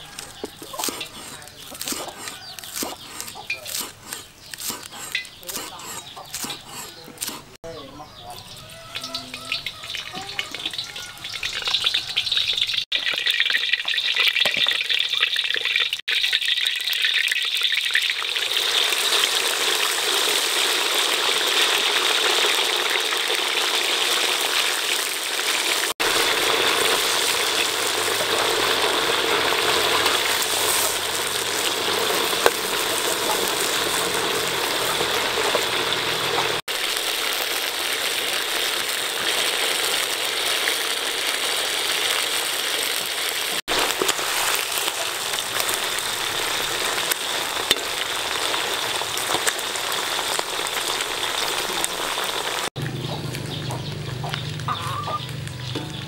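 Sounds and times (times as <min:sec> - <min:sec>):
deep-frying in hot oil sizzle: 0:08.8 - 0:56.0.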